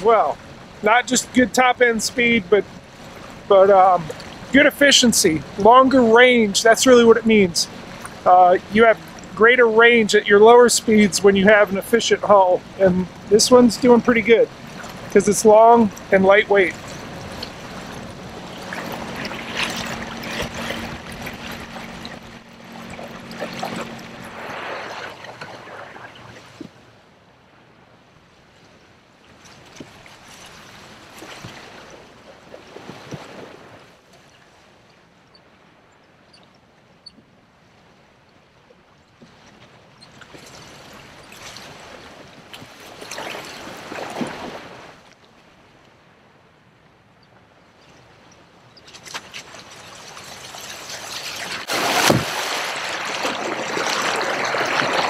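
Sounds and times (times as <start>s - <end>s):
water splashing along kayak hull: 0.0s - 55.0s.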